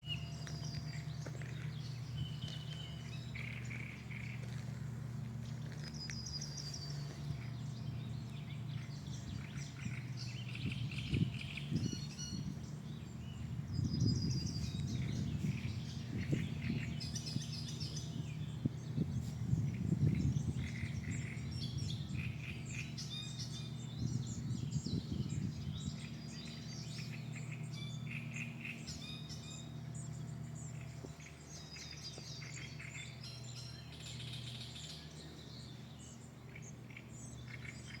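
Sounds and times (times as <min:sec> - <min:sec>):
low rumble: 0:00.0 - 0:32.5
small birds chirping: 0:00.0 - 0:38.0
steady low hum: 0:00.0 - 0:38.0.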